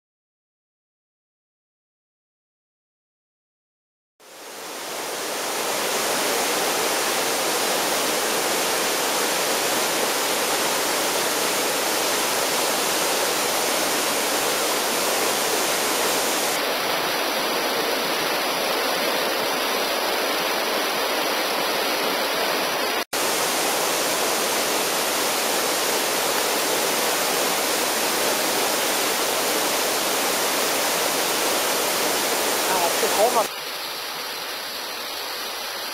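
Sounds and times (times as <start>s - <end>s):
waterfall rushing: 4.2s - 35.9s.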